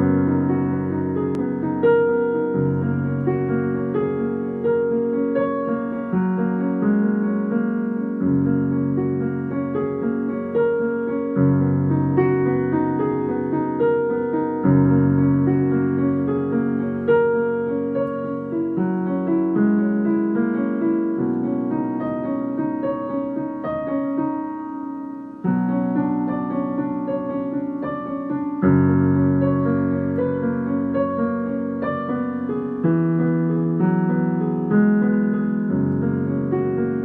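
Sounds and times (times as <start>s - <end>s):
slow piano chords: 0.0s - 37.0s.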